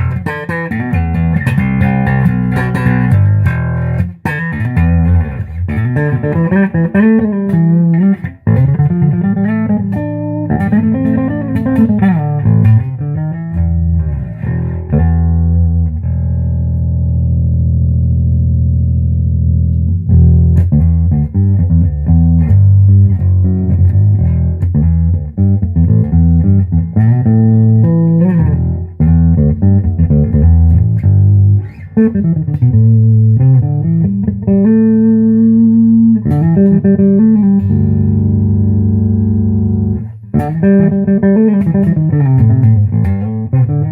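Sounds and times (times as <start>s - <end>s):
bass guitar notes with slides: 0.0s - 43.9s.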